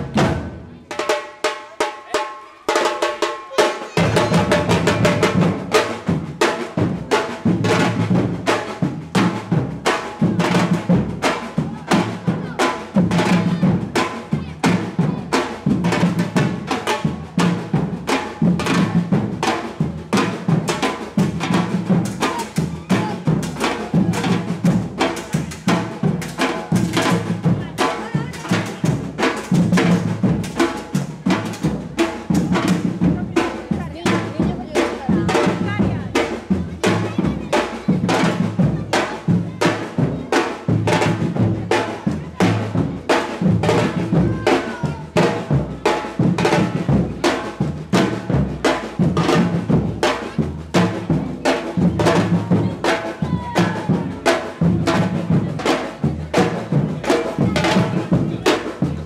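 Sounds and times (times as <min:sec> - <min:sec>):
bass drums: 0:00.0 - 0:00.7, 0:03.9 - 0:59.0
snare drums: 0:00.0 - 0:59.0.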